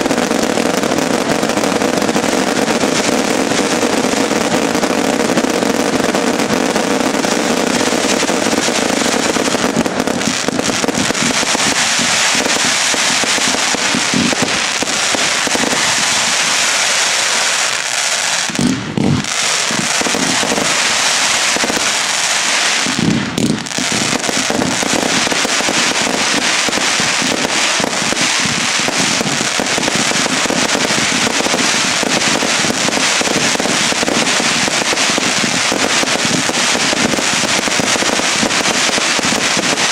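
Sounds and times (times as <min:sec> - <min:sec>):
fireworks crackling and bangs: 0:00.0 - 0:39.9.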